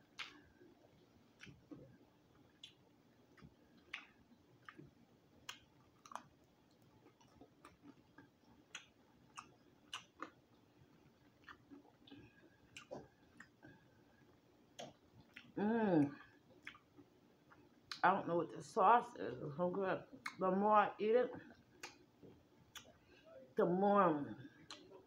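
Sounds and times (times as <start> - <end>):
mouth clicks and smacks while eating: 0.0 - 18.1, 20.1 - 20.4, 21.4 - 23.0, 24.6 - 25.0.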